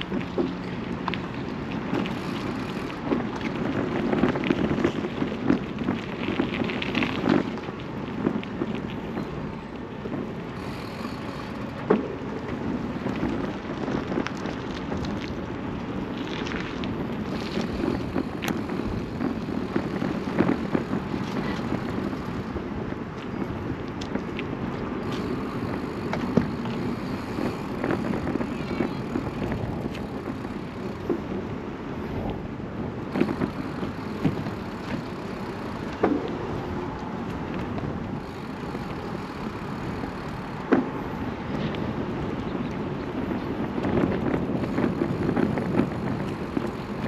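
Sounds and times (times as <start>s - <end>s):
faint irregular clicks: 0.0s - 31.4s, 33.1s - 47.0s
wind rumbling on microphone: 0.0s - 47.0s.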